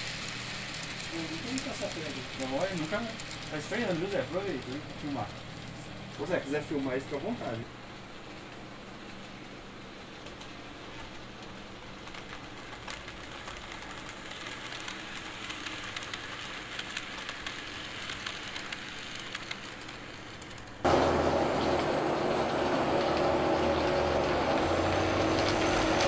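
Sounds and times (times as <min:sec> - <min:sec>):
model train running whirr: 0:00.0 - 0:26.0.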